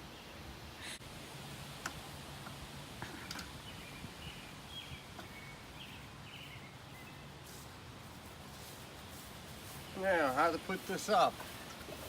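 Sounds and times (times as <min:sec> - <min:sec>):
small birds chirping: 0:01.9 - 0:12.0.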